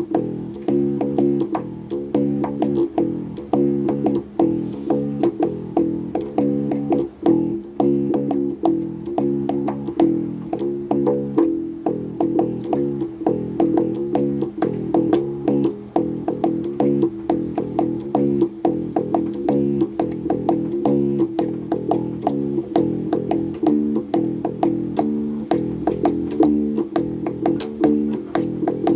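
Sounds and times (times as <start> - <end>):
bass guitar plucked notes: 0.0 - 28.9.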